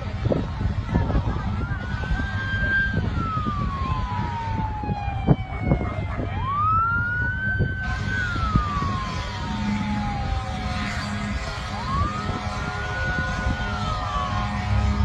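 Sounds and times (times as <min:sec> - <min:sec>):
emergency vehicle siren wailing: 0:00.0 - 0:15.0
low rumble: 0:00.0 - 0:15.0.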